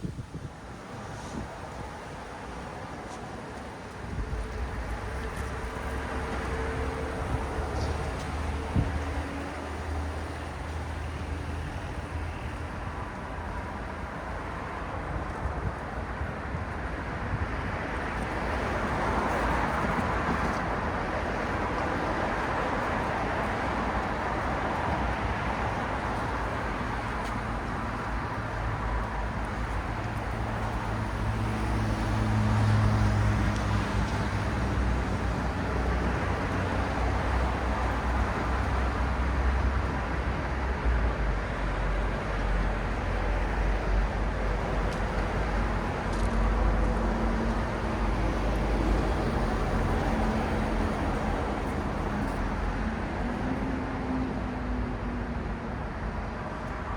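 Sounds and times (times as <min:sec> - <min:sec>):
cars and buses passing: 0:00.0 - 0:56.9.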